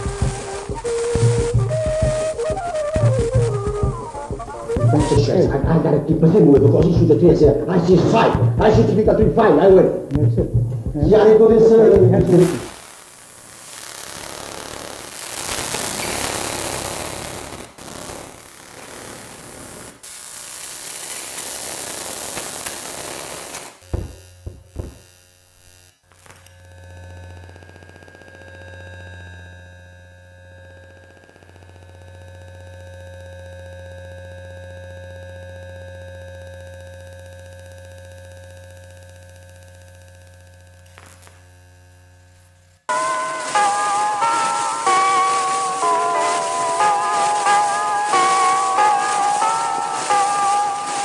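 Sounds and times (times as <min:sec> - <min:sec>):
static hiss: 0:00.0 - 0:28.7, 0:36.4 - 0:51.0.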